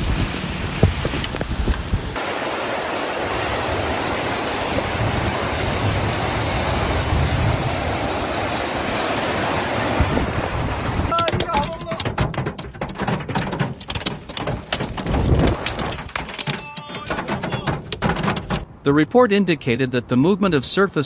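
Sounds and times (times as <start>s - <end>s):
heavy rain pouring: 0.0s - 18.6s.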